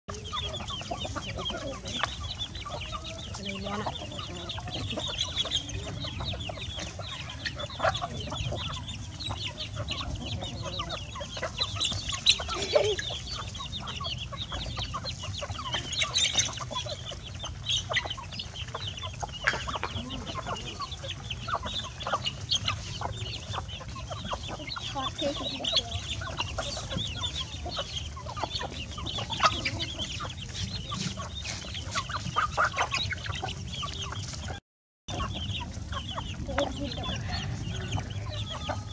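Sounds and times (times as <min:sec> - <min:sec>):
chickens clucking: 0:00.1 - 0:38.9.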